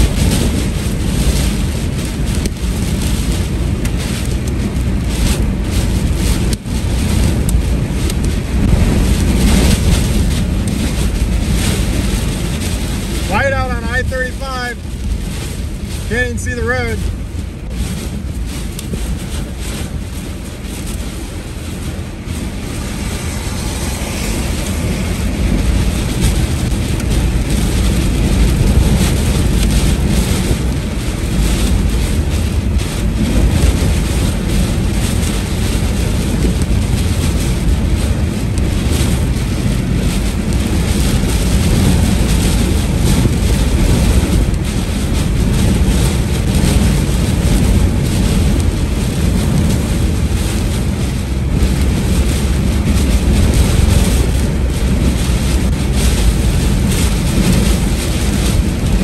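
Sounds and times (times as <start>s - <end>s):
rain drumming on a vehicle: 0.0s - 59.0s
road noise: 0.0s - 59.0s
wind noise: 0.0s - 59.0s.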